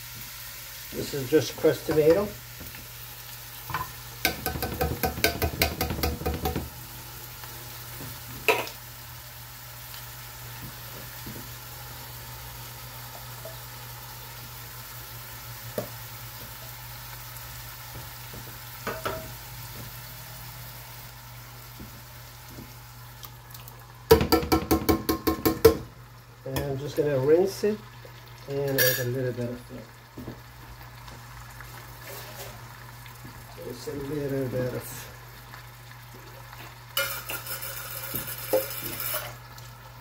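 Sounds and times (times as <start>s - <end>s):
pan sizzling: 0.0s - 40.0s.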